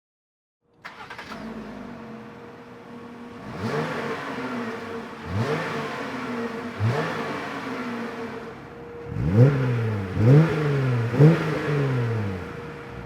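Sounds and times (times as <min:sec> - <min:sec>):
car engine idling and revving: 0:00.8 - 0:13.0.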